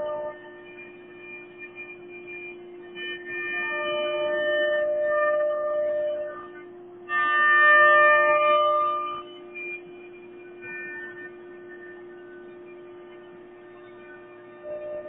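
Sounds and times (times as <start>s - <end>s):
bit cutting with ringing whine: 0.0s - 15.0s.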